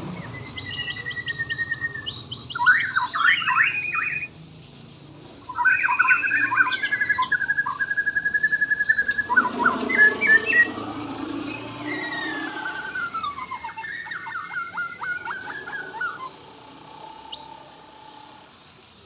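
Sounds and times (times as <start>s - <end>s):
bird singing whistles and trills: 0.0s - 4.3s, 5.5s - 18.5s.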